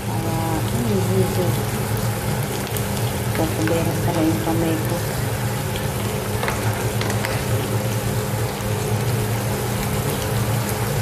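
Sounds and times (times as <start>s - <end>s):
beans sizzling in a pan: 0.0s - 11.0s.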